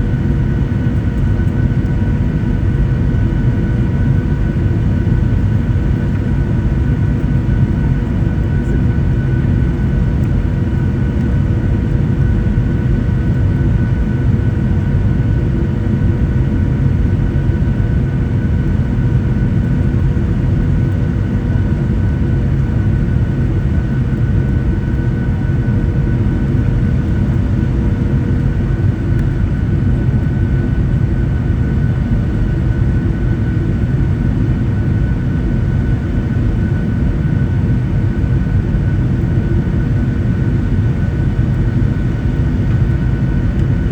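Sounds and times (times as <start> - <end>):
low rumble of engines and airflow: 0.0 - 43.9.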